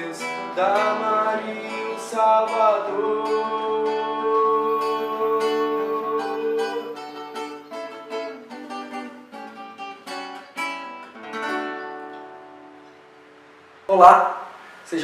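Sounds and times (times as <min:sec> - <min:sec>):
nylon-string guitar chords: 0:00.0 - 0:13.9.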